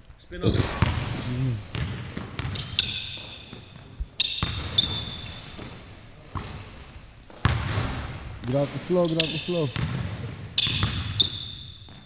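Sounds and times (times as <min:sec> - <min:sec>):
basketball hitting metal rim: 0:00.5 - 0:06.8, 0:07.4 - 0:12.0
basketball bouncing on wooden floor: 0:00.5 - 0:12.0.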